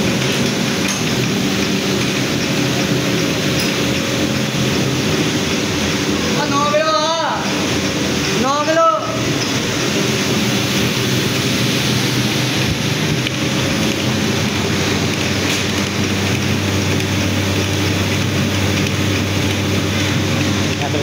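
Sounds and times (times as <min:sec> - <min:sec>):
low machine hum: 0:00.0 - 0:21.0
oil press mechanical din: 0:00.0 - 0:21.0.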